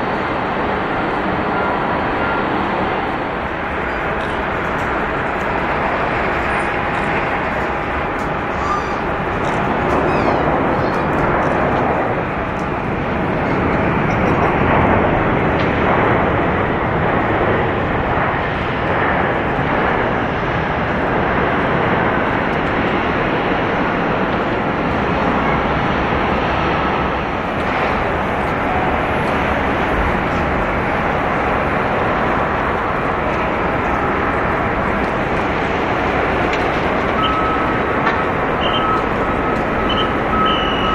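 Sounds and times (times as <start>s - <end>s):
jet airliner engines running: 0.0s - 40.9s.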